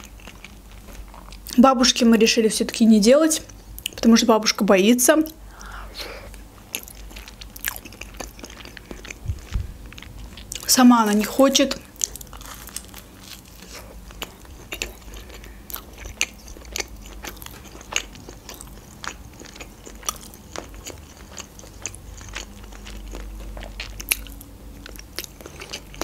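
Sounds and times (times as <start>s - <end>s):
person chewing food: 0.0s - 1.6s, 5.3s - 26.0s.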